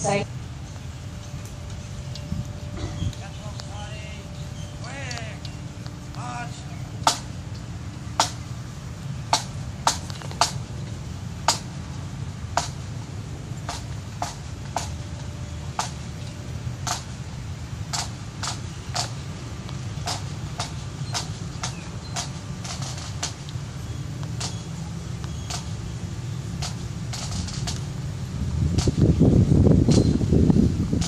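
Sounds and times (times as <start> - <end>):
sharp taps keeping marching time: 0.0 - 31.0
steady low rumble: 0.0 - 31.0.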